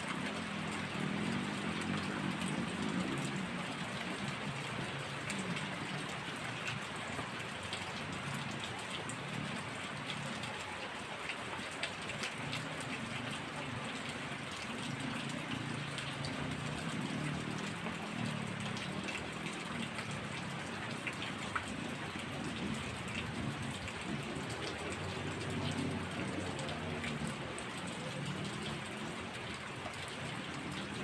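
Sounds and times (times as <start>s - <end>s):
heavy rain falling: 0.0s - 31.0s
raindrops ticking on surfaces: 0.0s - 31.0s.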